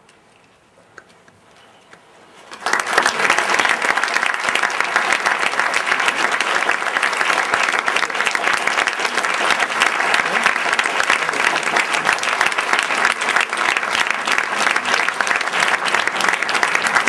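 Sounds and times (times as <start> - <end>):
audience applauding: 2.5 - 17.0.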